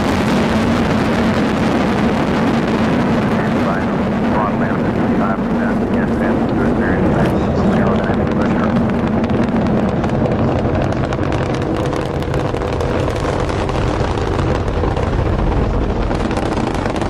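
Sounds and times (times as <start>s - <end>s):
rocket engines rumbling with crackle: 0.0s - 17.0s.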